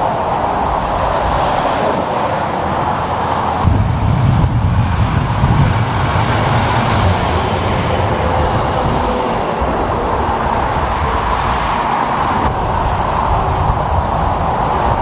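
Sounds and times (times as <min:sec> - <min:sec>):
truck engine rumbling by: 0:00.0 - 0:15.0
tyre and road noise: 0:00.0 - 0:15.0.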